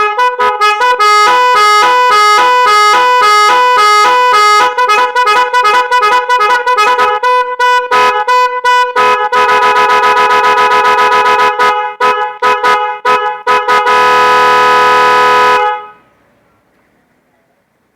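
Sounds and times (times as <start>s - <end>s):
musical vehicle horn: 0.0s - 16.2s.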